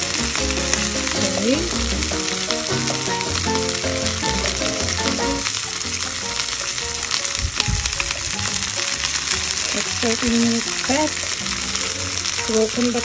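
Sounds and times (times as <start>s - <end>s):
background music: 0.0s - 13.0s
fish sizzling in a pan: 0.0s - 13.0s.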